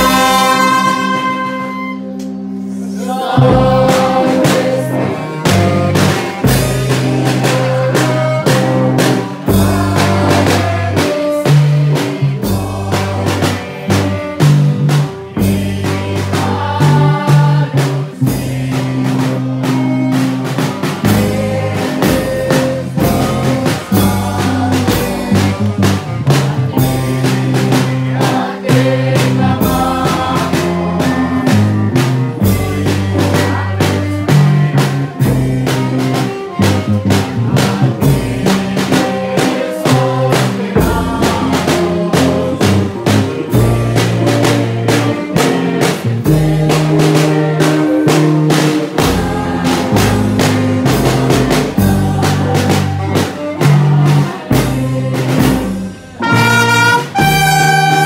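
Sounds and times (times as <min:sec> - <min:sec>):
steady drum beat: 0:00.0 - 0:01.8, 0:03.0 - 0:58.0
brass band playing: 0:00.0 - 0:58.0
saxophone and trumpet tune: 0:00.0 - 0:58.0.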